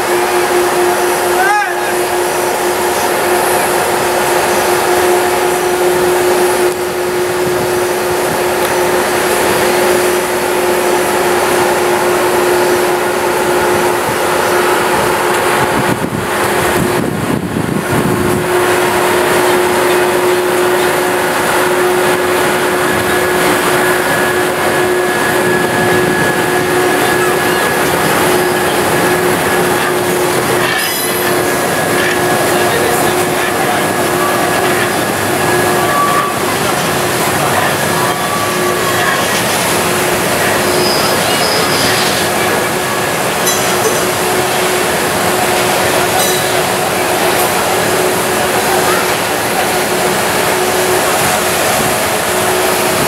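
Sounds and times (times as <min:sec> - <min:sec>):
electric locomotive whirring: 0:00.0 - 0:53.0.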